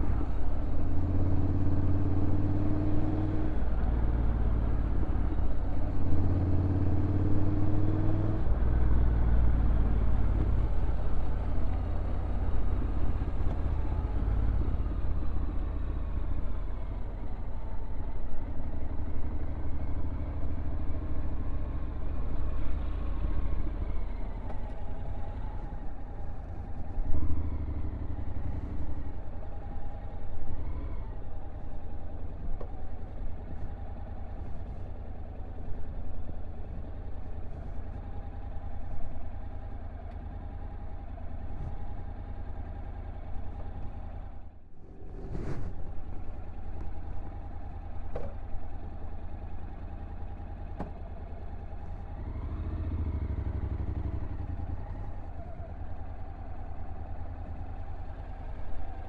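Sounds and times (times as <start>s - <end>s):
motorcycle engine low rumble: 0.0s - 59.0s.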